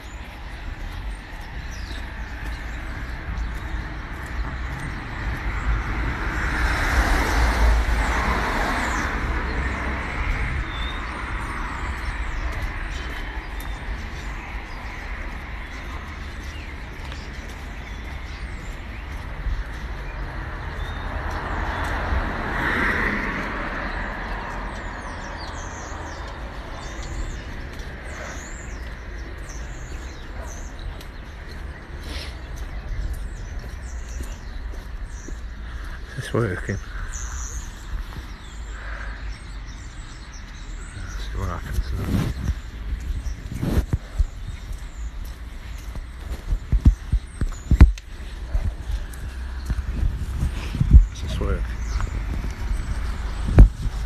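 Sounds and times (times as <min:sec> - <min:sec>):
cars passing: 0:00.0 - 0:54.0
small birds chirping: 0:00.0 - 0:54.0.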